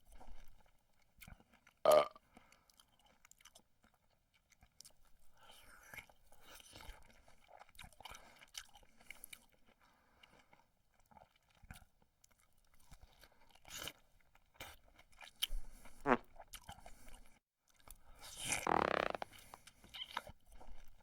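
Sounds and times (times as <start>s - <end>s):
comedy chewing and crunching effects: 0.1s - 21.0s.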